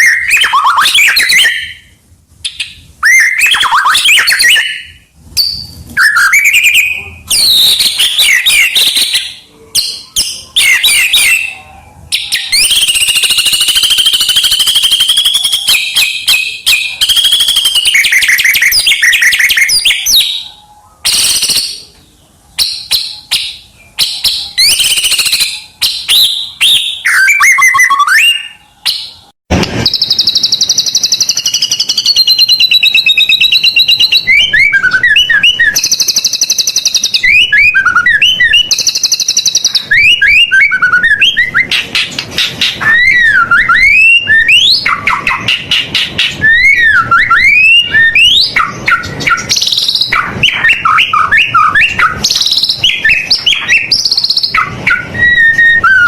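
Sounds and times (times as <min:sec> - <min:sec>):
songbird singing trills and whistles: 0:00.0 - 0:56.0.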